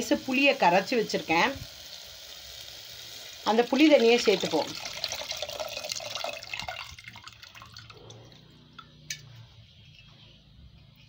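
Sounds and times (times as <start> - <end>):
water pouring and splashing into pot: 0.0 - 9.3.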